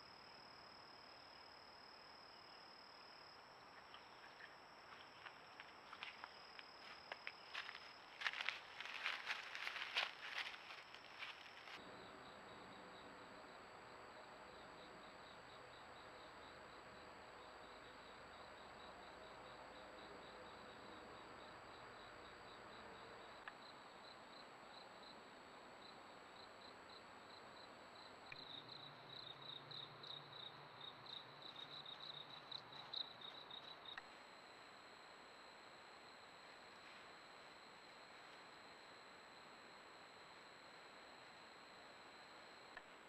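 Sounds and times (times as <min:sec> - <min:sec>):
insect chirping: 0:00.0 - 0:43.0.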